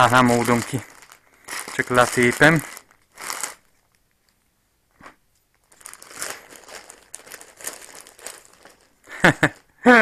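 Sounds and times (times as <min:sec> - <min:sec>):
plastic bag crinkling: 0:00.0 - 0:04.4, 0:05.0 - 0:10.0.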